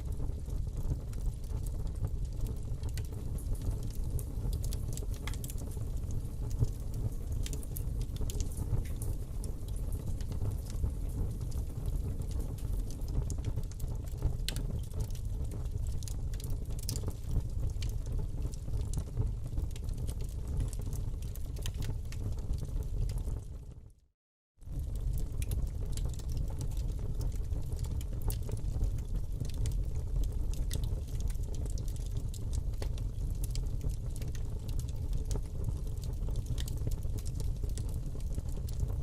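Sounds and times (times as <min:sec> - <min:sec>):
fire crackling in a fireplace: 0:00.0 - 0:39.0.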